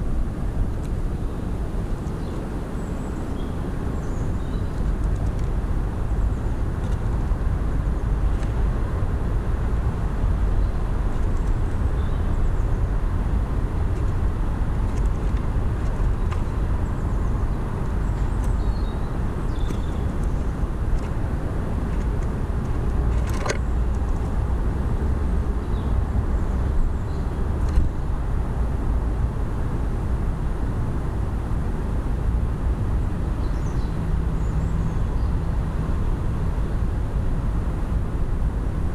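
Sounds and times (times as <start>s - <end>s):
low outdoor rumble: 0.0s - 38.9s.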